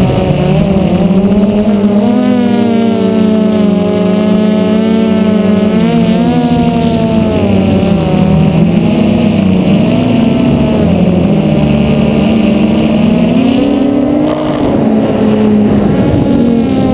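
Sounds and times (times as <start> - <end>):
drone motors buzzing: 0.0 - 16.9.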